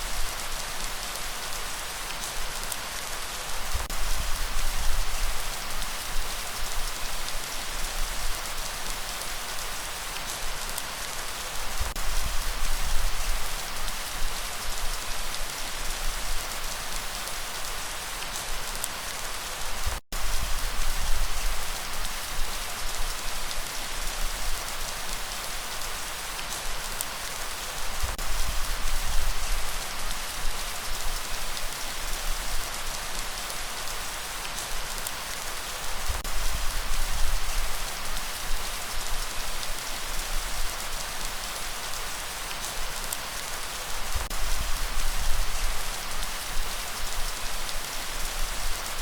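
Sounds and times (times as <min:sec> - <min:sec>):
light rain falling: 0:00.0 - 0:49.0.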